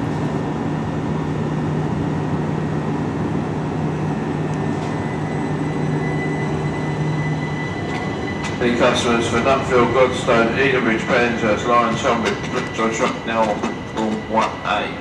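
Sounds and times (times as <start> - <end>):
train equipment humming: 0.0 - 15.0
faint high whine: 0.1 - 15.0.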